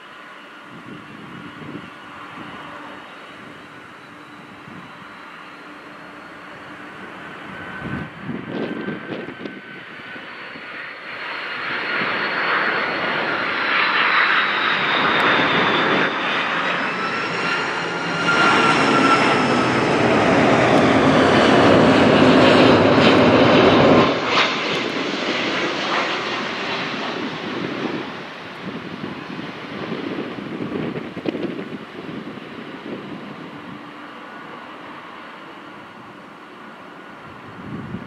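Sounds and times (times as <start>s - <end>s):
jet engines spooling up: 0.0s - 38.0s.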